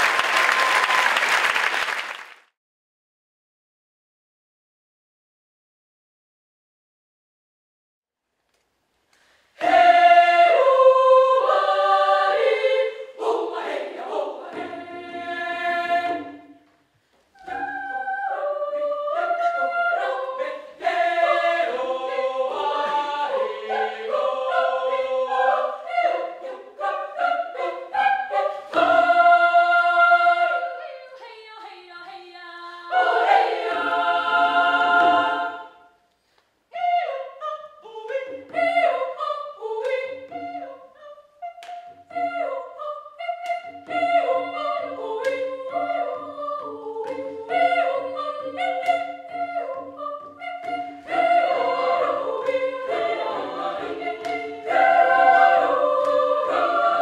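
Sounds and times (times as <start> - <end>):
children's choir singing: 9.6 - 16.7, 17.3 - 36.0, 36.7 - 57.0.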